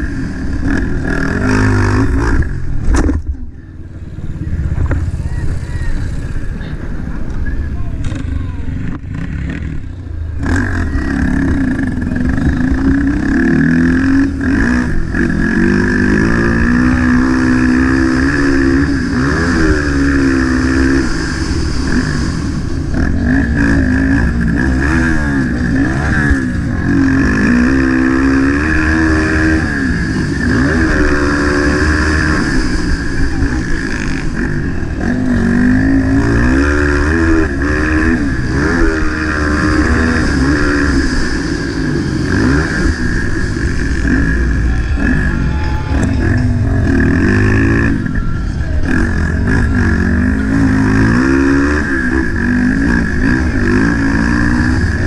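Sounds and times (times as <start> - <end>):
motocross bike engine revving: 0.0 - 7.2, 8.0 - 55.0.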